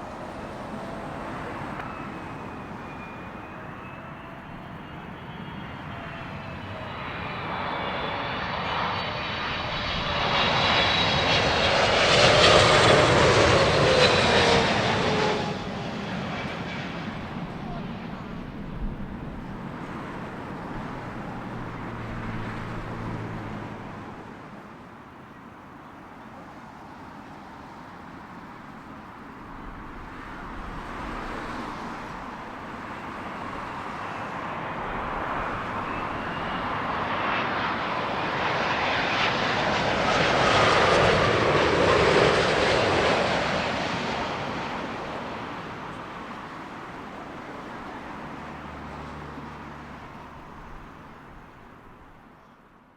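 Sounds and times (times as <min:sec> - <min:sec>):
jet airliner passing overhead: 0:00.0 - 0:52.9.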